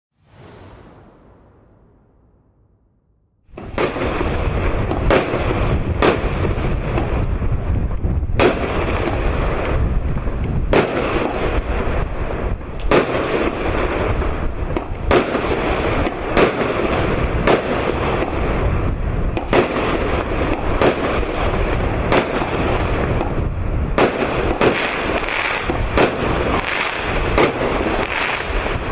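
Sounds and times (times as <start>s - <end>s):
firework shots and bursts: 3.5s - 28.9s.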